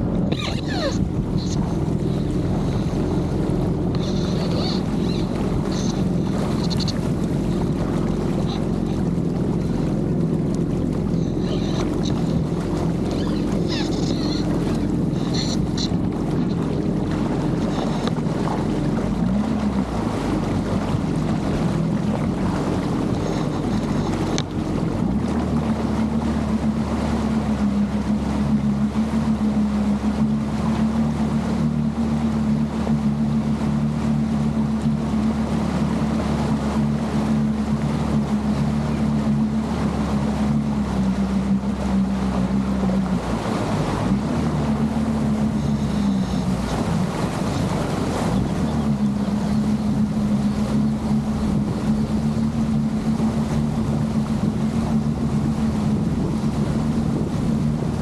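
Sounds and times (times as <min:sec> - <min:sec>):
jet ski engine running: 0:00.0 - 0:58.0
water rushing: 0:00.0 - 0:58.0
wind buffeting microphone: 0:00.0 - 0:58.0.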